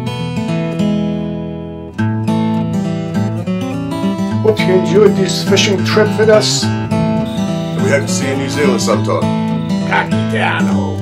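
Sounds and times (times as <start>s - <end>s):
acoustic guitar playing chords: 0.0s - 11.0s.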